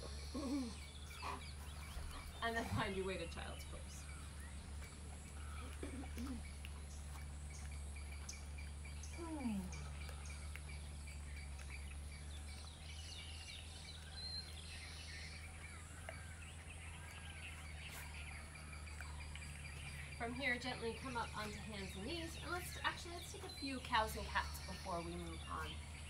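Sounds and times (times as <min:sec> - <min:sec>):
bird chirps and calls: 0:00.0 - 0:26.0
steady low rumble: 0:00.0 - 0:26.0.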